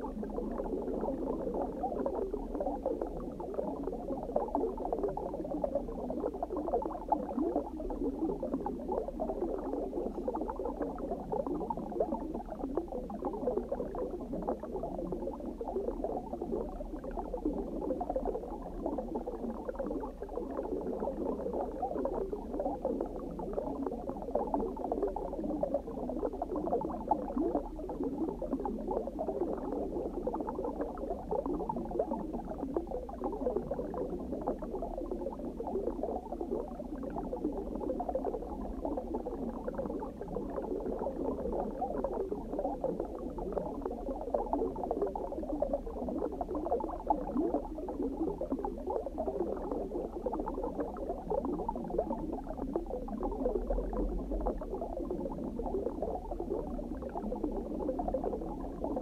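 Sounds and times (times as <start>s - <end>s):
underwater bubbling and gurgling: 0.0s - 59.0s.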